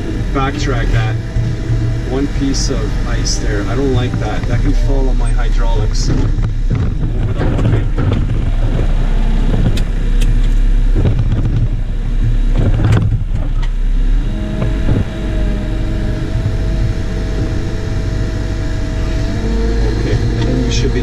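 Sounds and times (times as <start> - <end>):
diesel engine running: 0.0 - 21.0
steady whine: 0.0 - 21.0.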